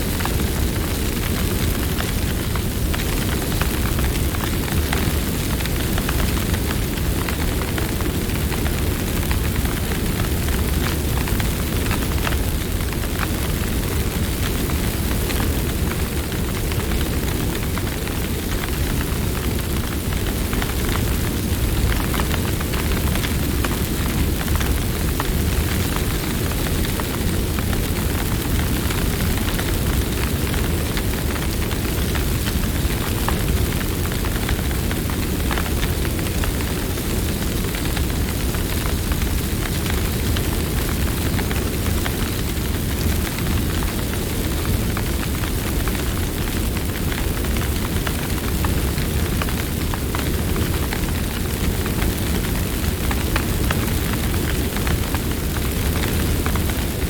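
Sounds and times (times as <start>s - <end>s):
burning wood crackling and popping: 0.0s - 57.0s
campfire flames rushing: 0.0s - 57.0s.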